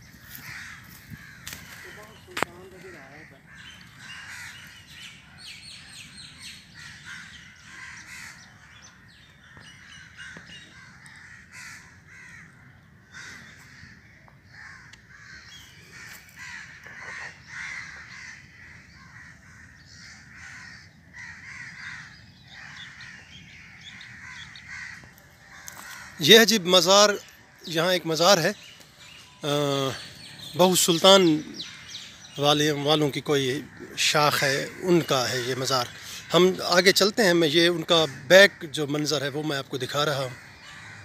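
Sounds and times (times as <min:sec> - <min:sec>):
crows cawing: 0:00.0 - 0:41.0.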